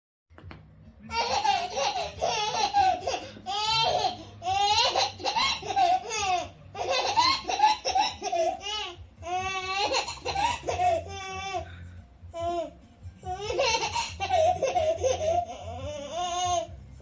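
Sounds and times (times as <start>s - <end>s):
baby laughing: 1.1s - 11.7s, 12.4s - 16.8s.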